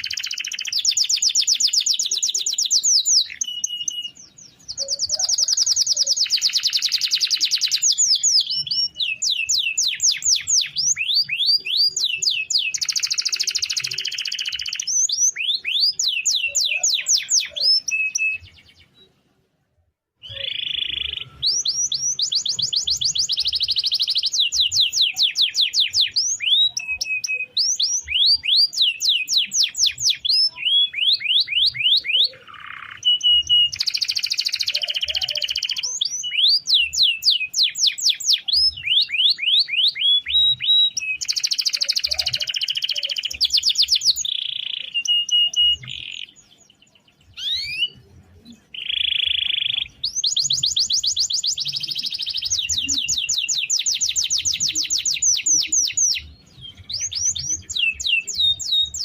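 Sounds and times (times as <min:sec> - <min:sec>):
canary singing: 0:00.0 - 0:19.4, 0:20.2 - 0:59.0.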